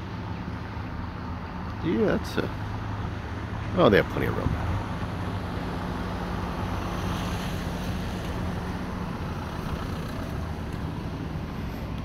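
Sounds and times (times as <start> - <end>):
ship engine hum: 0.0 - 12.0
wind: 0.0 - 12.0.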